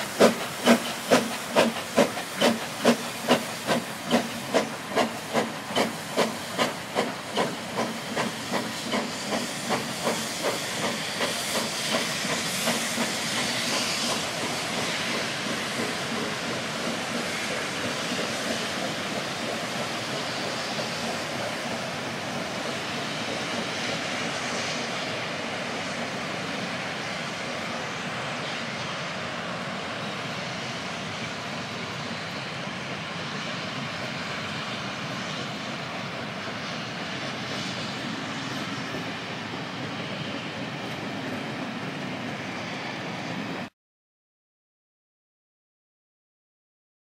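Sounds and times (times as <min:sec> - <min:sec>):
train coaches rumbling past: 0:00.0 - 0:43.7.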